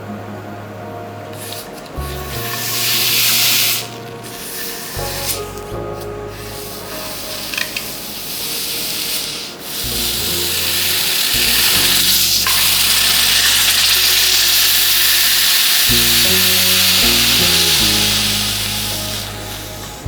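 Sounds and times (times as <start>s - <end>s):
background music: 0.0s - 20.0s
hot metal hissing on ice: 1.4s - 5.7s, 6.3s - 20.0s.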